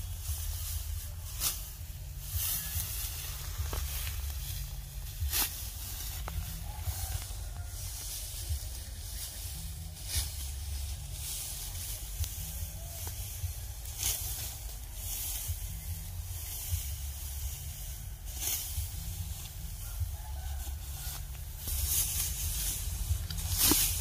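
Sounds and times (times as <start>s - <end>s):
low rumble: 0.0s - 24.0s
sickle swishing through dry stalks: 0.0s - 24.0s.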